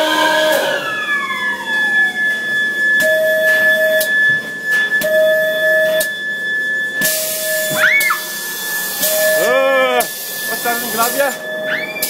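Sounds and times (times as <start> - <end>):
pulsing low electronic tone: 0.0 - 12.0
steady high electronic tone: 0.0 - 12.0.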